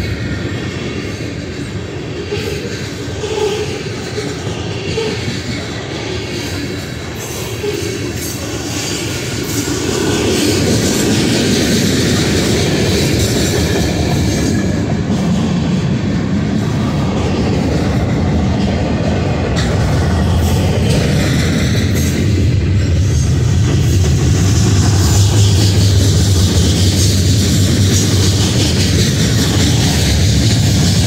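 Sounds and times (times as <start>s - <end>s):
freight train wheels on rails: 0.0s - 31.0s.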